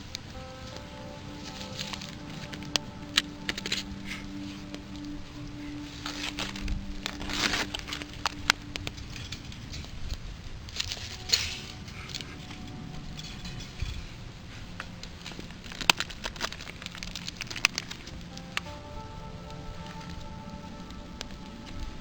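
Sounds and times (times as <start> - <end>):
wood crackling and snapping: 0.0 - 22.0.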